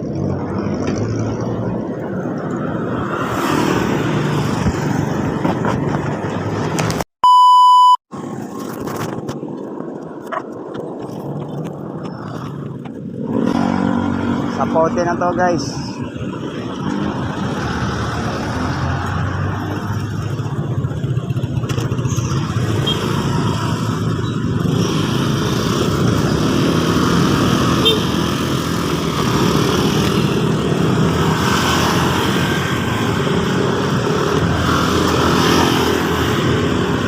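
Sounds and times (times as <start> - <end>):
road traffic engines: 0.0 - 37.0.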